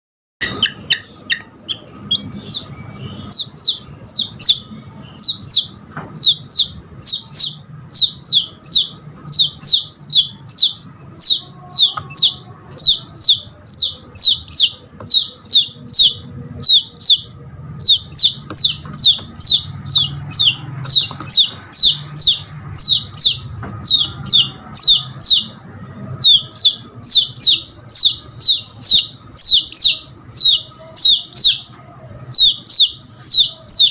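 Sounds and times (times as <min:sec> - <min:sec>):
chick peeping: 0:00.4 - 0:33.9.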